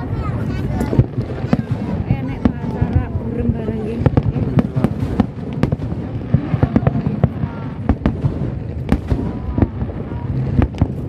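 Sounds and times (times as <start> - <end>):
fireworks bursting with sharp bangs: 0.0 - 11.0
low rumble: 0.0 - 11.0.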